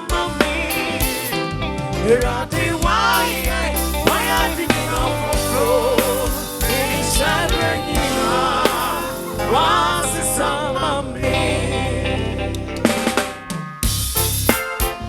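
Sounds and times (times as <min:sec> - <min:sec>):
person singing with vibrato: 0:00.0 - 0:14.0
band with heavy bass: 0:00.0 - 0:15.0.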